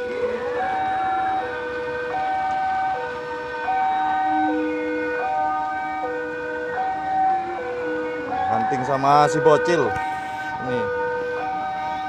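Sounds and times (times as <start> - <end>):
two-tone level crossing alarm: 0.0 - 12.0.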